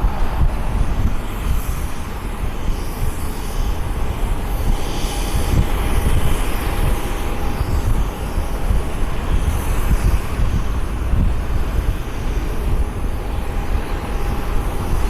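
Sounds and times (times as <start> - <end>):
faint steady whine: 0.0 - 15.0
jet engines rumbling: 0.0 - 15.0
wind buffeting microphone: 0.0 - 15.0.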